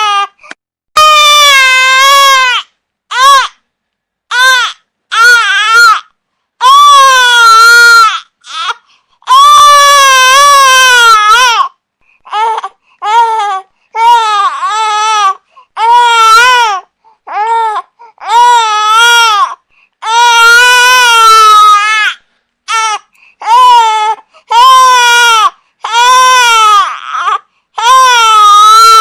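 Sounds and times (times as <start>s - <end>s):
infant crying: 1.0s - 3.6s, 4.3s - 29.0s.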